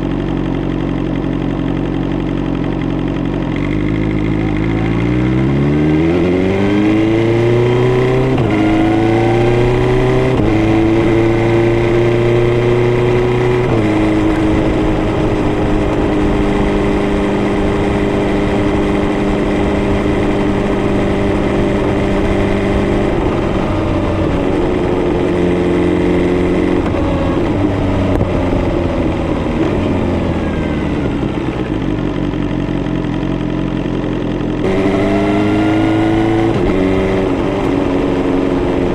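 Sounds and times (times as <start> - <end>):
motorcycle engine revving through gears: 0.0 - 38.9.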